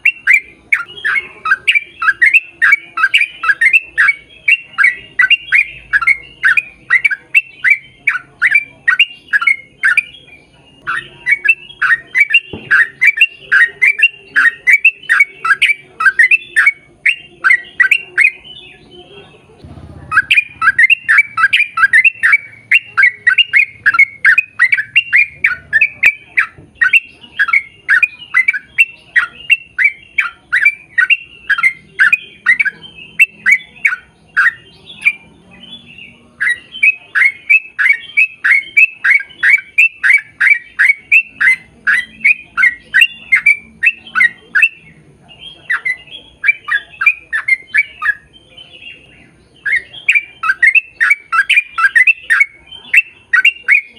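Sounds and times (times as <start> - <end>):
bird harsh repeated calls: 0.0 - 53.9.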